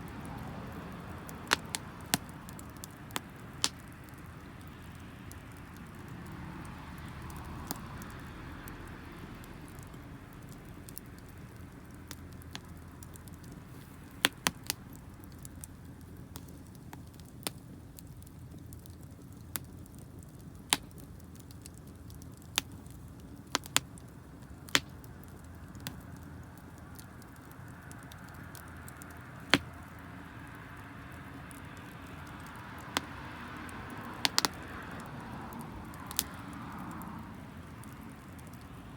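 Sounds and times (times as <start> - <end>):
campfire flame rushing: 0.0 - 38.9
campfire pops and crackles: 0.0 - 38.9.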